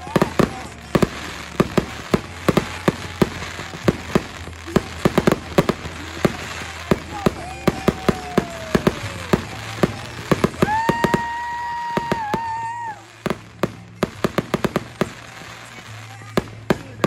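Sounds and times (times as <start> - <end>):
firework whistling: 0.0 - 17.0
fireworks popping and crackling: 0.0 - 17.0.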